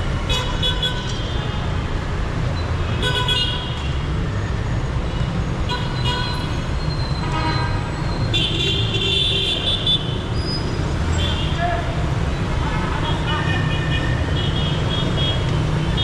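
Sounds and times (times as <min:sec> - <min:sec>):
traffic engine rumble: 0:00.0 - 0:16.0.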